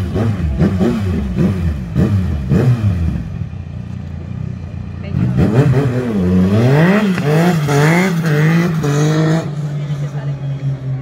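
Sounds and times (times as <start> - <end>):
engine revving: 0.0 - 3.5, 5.0 - 11.0.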